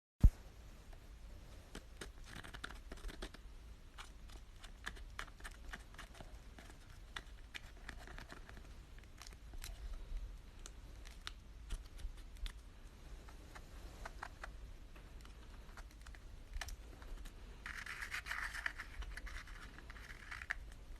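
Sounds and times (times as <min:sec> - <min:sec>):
low steady hum: 0:00.2 - 0:20.9.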